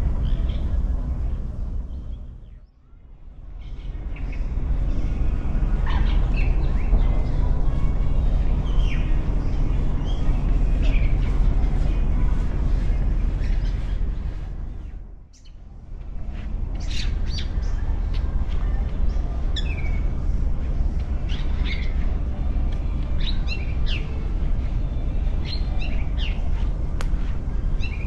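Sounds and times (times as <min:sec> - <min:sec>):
small birds chirping: 0:00.0 - 0:28.0
steady low rumble: 0:00.0 - 0:28.0.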